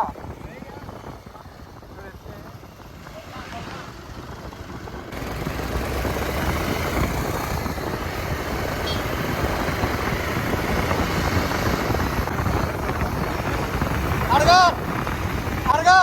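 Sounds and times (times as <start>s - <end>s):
motorcycle running: 0.0s - 16.0s
wind buffeting microphone: 0.0s - 16.0s.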